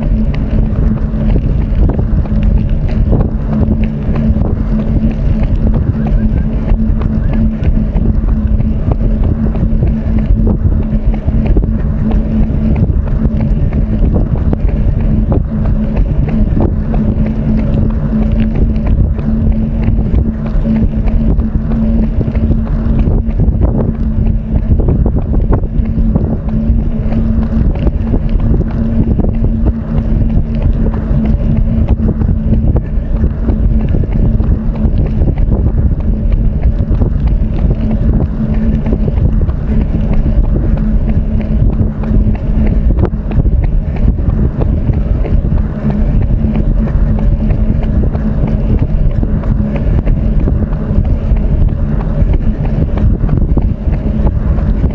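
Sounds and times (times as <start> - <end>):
steady low hum: 0.0 - 54.9
wind buffeting microphone: 0.0 - 54.9.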